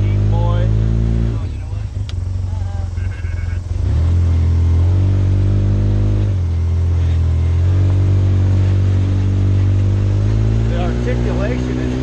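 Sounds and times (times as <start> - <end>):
utility vehicle engine under throttle: 0.0 - 12.0.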